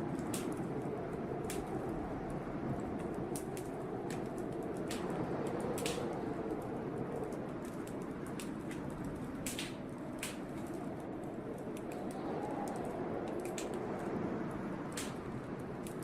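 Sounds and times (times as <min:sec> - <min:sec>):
blizzard wind rushing: 0:00.0 - 0:16.0
wood fire crackling and popping: 0:00.0 - 0:16.0.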